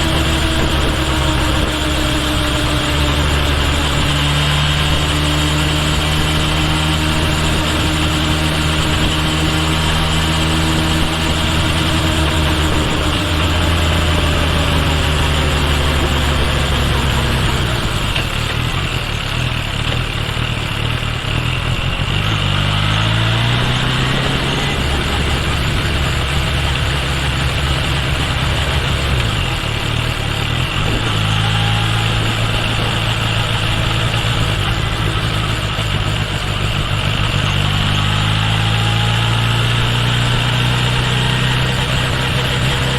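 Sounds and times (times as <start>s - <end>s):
motorcycle engine accelerating: 0.0s - 42.9s
road and wind noise: 0.0s - 42.9s.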